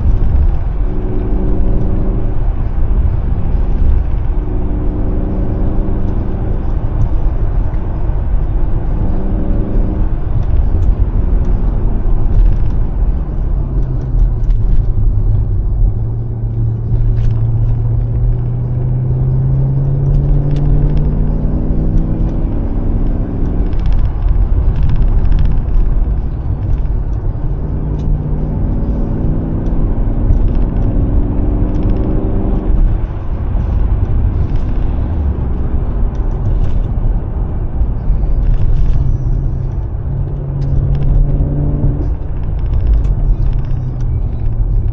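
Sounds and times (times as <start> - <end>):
car engine accelerating: 0.0 - 44.9
road rumble: 0.0 - 44.9.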